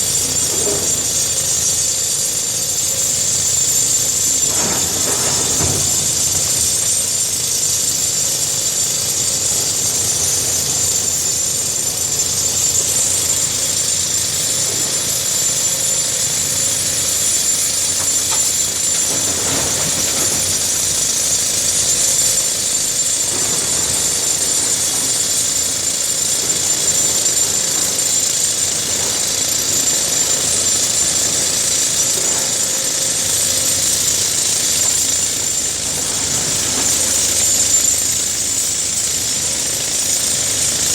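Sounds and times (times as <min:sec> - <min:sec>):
excavator engine running: 0:02.9 - 0:07.6, 0:11.5 - 0:40.9.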